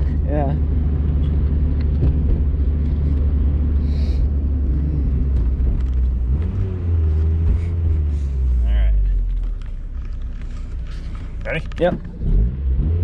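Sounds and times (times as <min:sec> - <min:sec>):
car engine rumble: 0:00.0 - 0:13.0
road and wind noise: 0:00.0 - 0:13.0.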